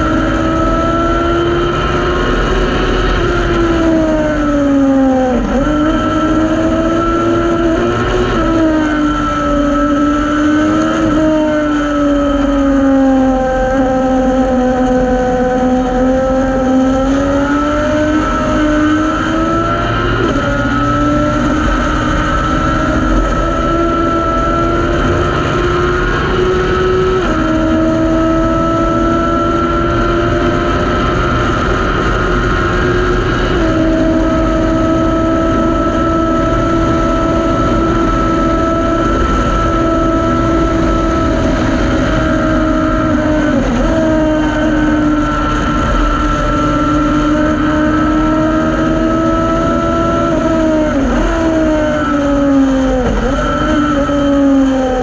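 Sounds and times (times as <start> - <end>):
race car engine at high revs: 0.0 - 55.0
wind and road noise: 0.0 - 55.0.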